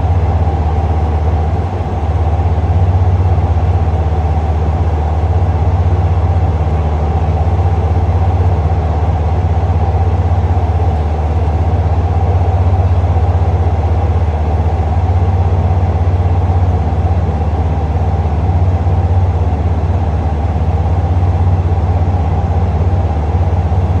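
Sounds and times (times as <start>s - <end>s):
diesel train engine idling: 0.0s - 24.0s.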